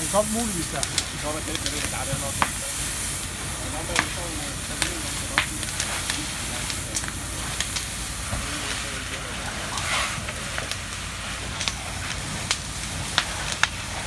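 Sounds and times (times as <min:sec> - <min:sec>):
fire crackling and popping: 0:00.0 - 0:14.0
hose water jet hissing: 0:00.0 - 0:14.0.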